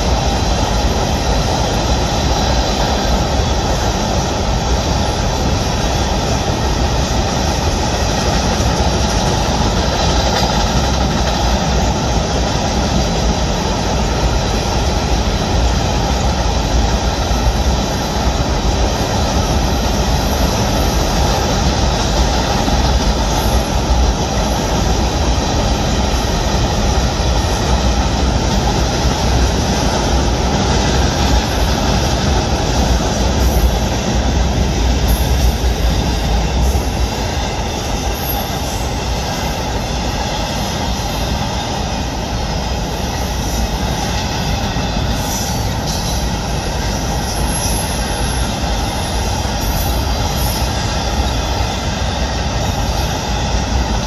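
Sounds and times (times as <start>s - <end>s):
freight train rumbling over bridge: 0.0s - 54.0s.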